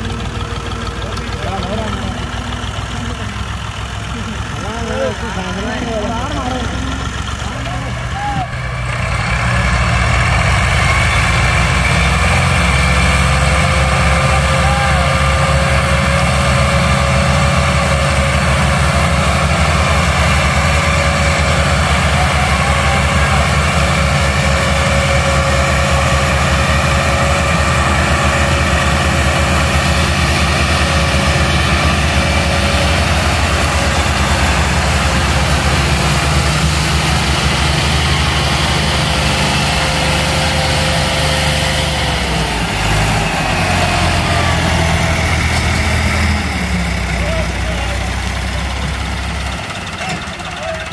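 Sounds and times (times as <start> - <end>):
diesel tractor engines under load: 0.0 - 50.9.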